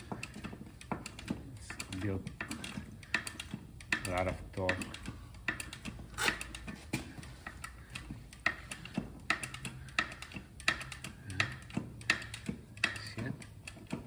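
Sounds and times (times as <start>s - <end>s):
hydraulic press pump clicks: 0.0s - 14.0s.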